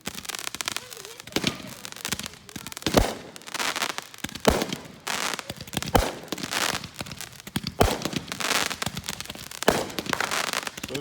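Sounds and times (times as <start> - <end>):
firework bangs: 0.0 - 11.0
firework crackling: 0.0 - 11.0.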